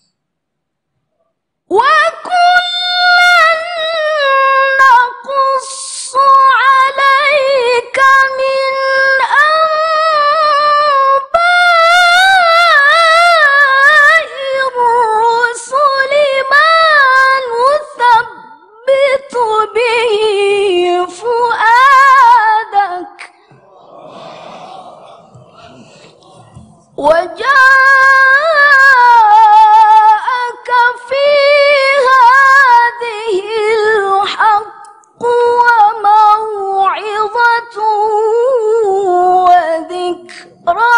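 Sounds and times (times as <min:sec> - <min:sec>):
woman chanting recitation: 0:01.7 - 0:24.3, 0:25.0 - 0:40.9.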